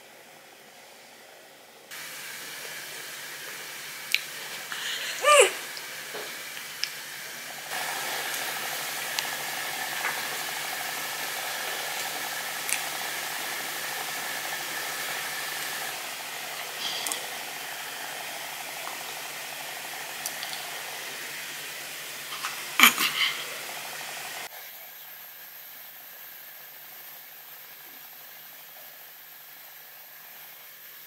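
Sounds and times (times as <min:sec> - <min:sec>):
low steady hum: 0:00.0 - 0:26.3
room noise hiss: 0:00.0 - 0:31.0.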